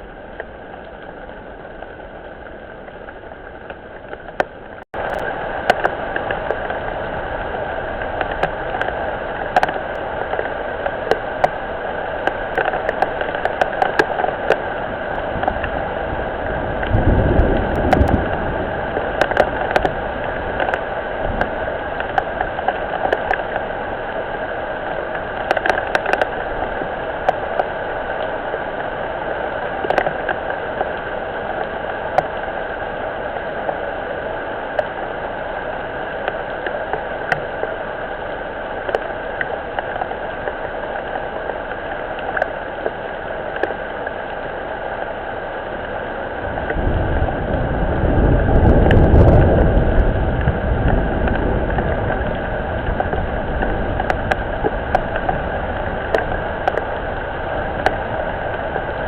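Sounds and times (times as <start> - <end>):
rain falling on a pond: 0.0 - 59.0.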